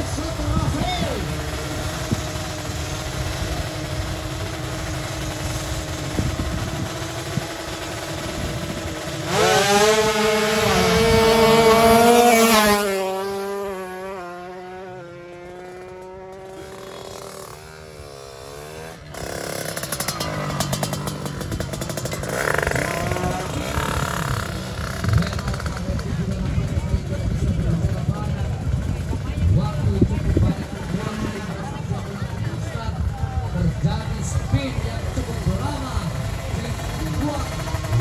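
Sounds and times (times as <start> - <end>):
another engine: 0.0 - 38.0
two-stroke motorcycle launching: 0.0 - 38.0.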